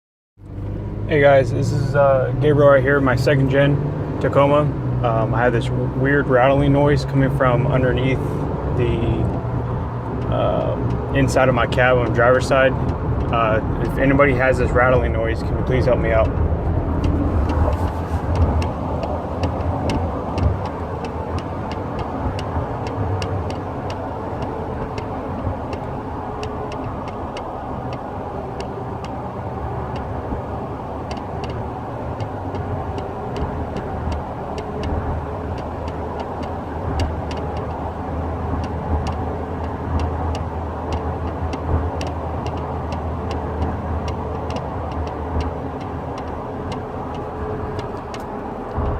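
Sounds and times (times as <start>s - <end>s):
engine and road noise drone: 0.4s - 48.9s
light rattle of small clicks: 9.0s - 48.9s.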